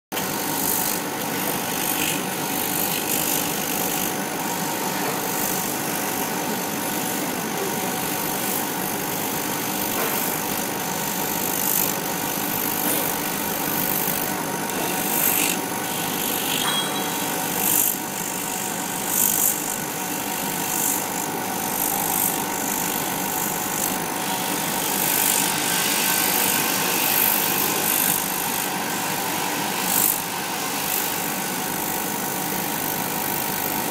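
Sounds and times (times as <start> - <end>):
laser cutter humming: 0.2 - 33.9.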